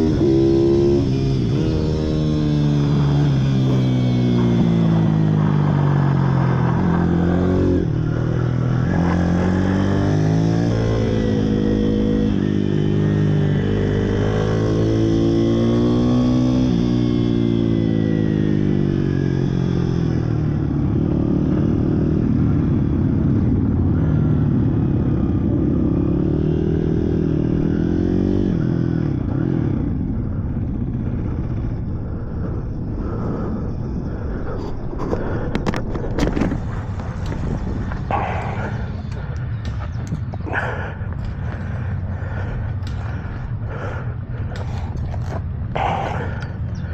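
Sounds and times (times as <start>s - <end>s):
small motorbike engines revving: 0.0s - 46.9s.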